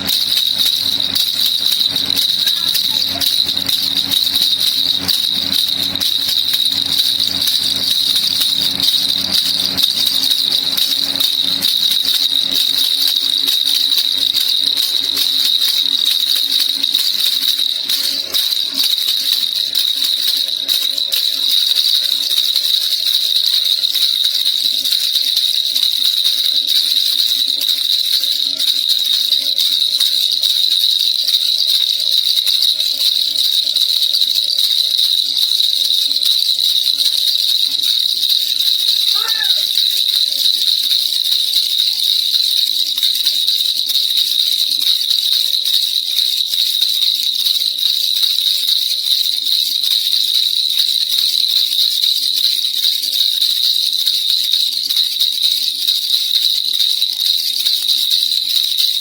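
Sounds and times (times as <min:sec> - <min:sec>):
baby rattle shaken: 0:00.0 - 0:59.0.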